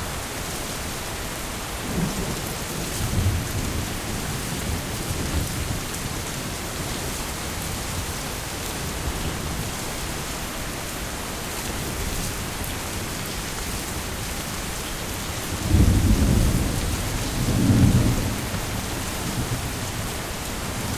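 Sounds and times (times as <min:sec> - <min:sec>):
thunder rumbling: 0:00.0 - 0:10.6, 0:11.6 - 0:20.9
heavy rain: 0:00.0 - 0:20.9.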